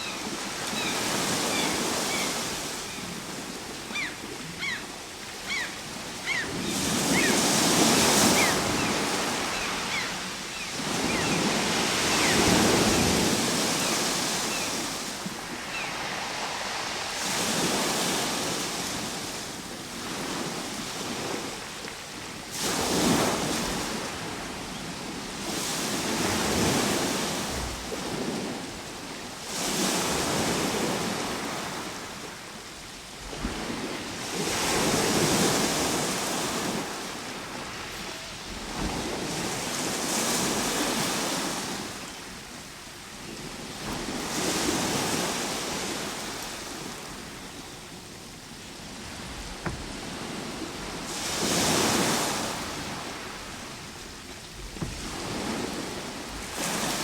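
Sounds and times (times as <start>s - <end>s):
ocean waves breaking: 0.0s - 21.7s, 22.5s - 32.5s, 33.2s - 57.0s.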